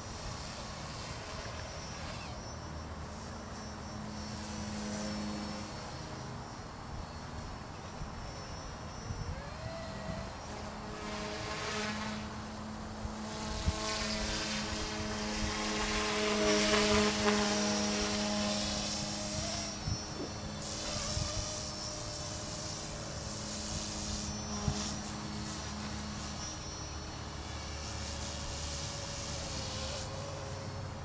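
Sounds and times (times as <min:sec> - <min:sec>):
rc helicopter motor whine: 0:00.0 - 0:31.0.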